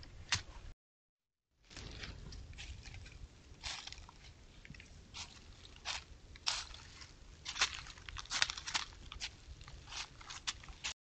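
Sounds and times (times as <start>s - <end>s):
deer crunching: 1.7s - 11.0s.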